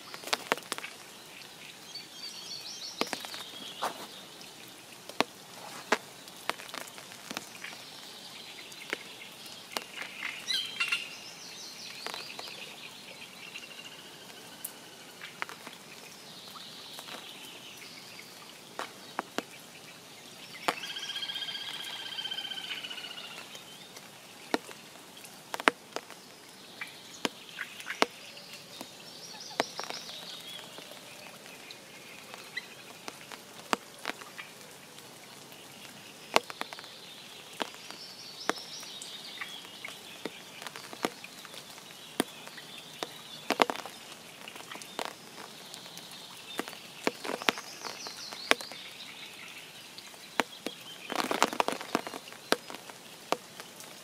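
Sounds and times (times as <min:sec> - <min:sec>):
birds singing: 0:00.0 - 0:05.0, 0:05.7 - 0:34.8, 0:35.4 - 0:54.0
long steady bird call: 0:00.0 - 0:54.0
raindrops ticking: 0:00.0 - 0:54.0.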